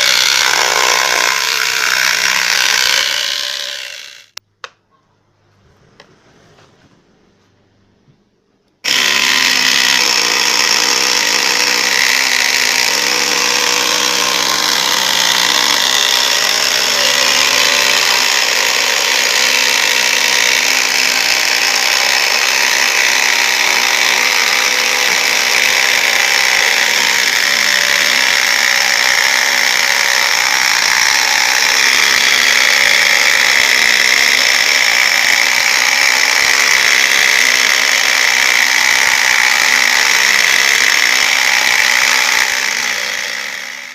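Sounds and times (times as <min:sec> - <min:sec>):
power saw whining: 0:00.0 - 0:04.4, 0:08.8 - 0:43.9.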